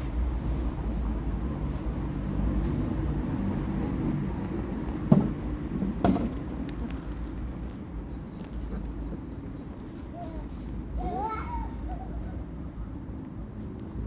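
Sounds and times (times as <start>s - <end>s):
urban background rumble: 0.0s - 14.0s.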